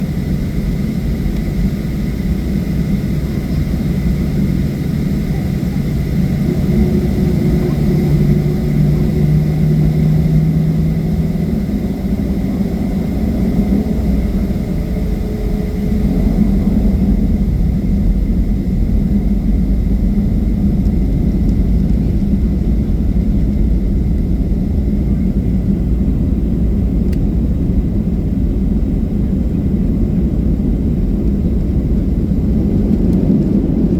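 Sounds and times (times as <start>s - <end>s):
jet engines during takeoff: 0.0s - 33.9s.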